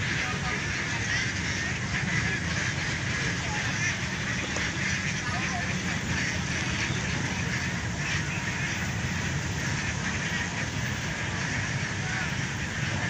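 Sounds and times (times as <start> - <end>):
chorus of small animal calls: 0.0 - 13.0.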